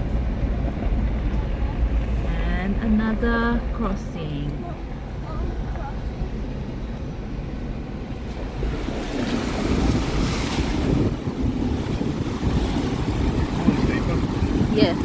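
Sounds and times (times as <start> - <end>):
vehicle engine rumble: 0.0 - 15.0
water splashing against vehicle: 0.1 - 15.0.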